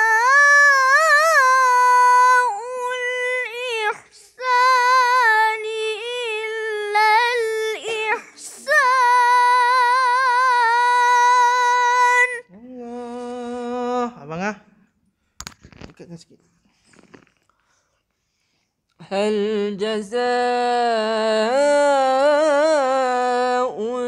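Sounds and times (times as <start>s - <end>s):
boy chanting: 0.0s - 14.5s, 19.0s - 24.0s.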